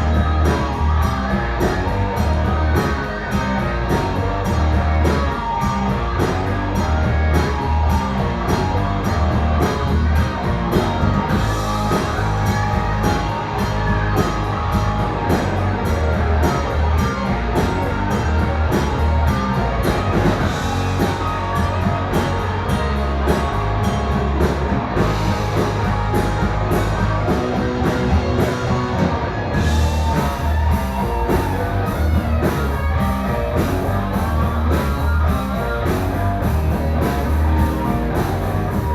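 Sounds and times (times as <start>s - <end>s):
rock music with guitar and drums: 0.0s - 38.9s.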